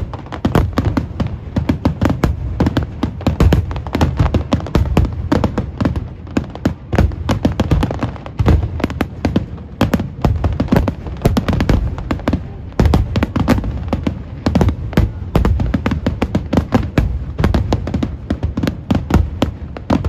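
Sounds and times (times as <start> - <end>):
fireworks cracking and popping: 0.0 - 20.0.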